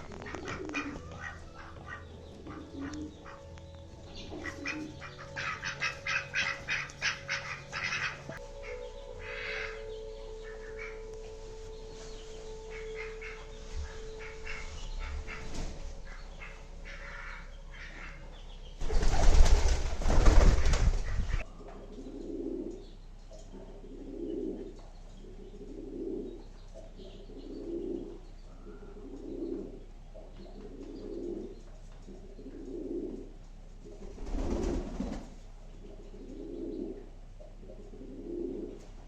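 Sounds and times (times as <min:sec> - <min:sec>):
pigeon cooing: 0:00.0 - 0:39.0.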